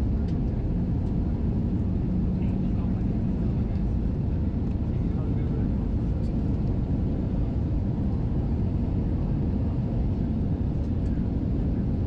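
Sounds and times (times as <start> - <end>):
airliner engines roaring in cabin: 0.0 - 12.0.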